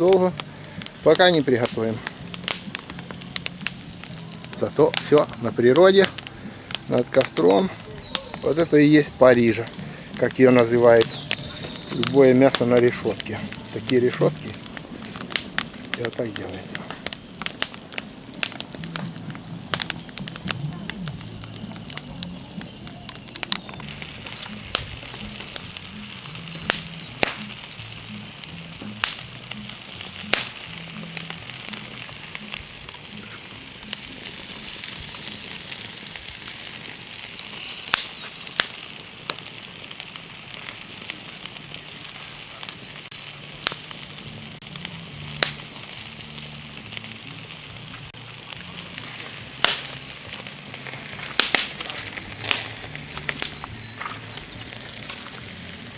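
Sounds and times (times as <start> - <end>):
meat sizzling on a grill: 0.0 - 55.9
wood fire crackling and popping: 0.0 - 55.9.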